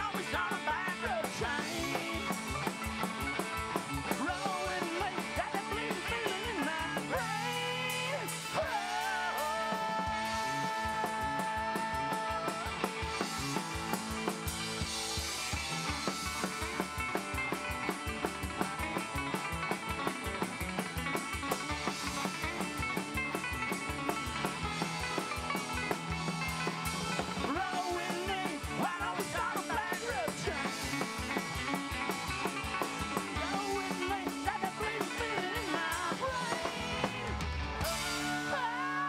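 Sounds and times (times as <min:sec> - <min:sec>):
drum kit fast beat: 0:00.0 - 0:39.0
electric guitar: 0:00.0 - 0:39.0
picked banjo: 0:00.0 - 0:39.0
upright bass: 0:00.0 - 0:39.0.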